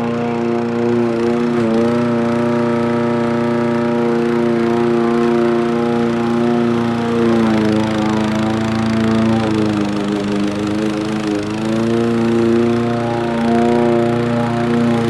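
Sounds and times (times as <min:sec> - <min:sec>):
lawn mower whirring: 0:00.0 - 0:15.0.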